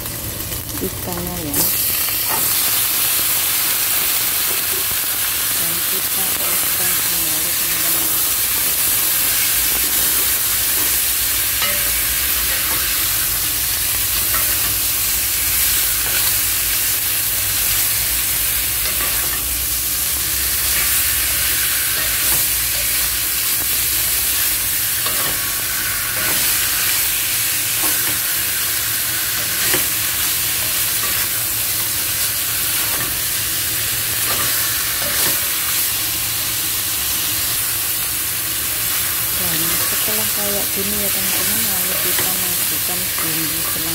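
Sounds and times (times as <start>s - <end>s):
fish sizzling in hot oil: 0.0s - 43.9s.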